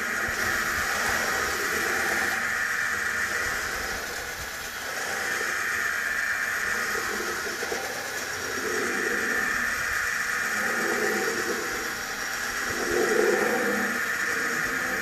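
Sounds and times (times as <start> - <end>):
electric motors whirring: 0.0 - 15.0.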